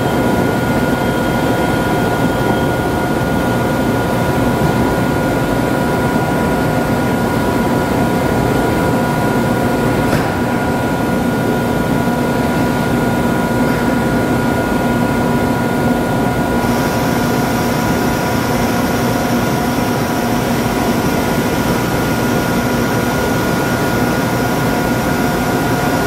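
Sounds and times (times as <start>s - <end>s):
machine hum with whining tones: 0.0s - 26.0s.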